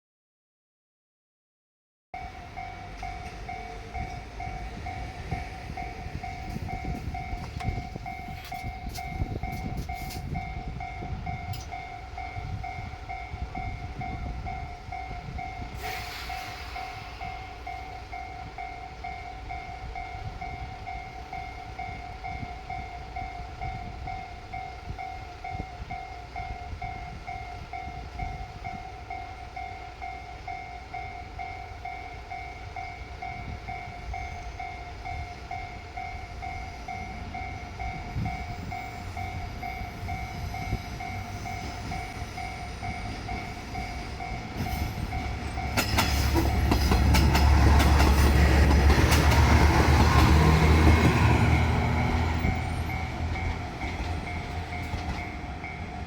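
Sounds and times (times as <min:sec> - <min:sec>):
diesel railcar rumble: 0:02.2 - 0:56.0
electronic crossing bell ringing: 0:02.2 - 0:56.0.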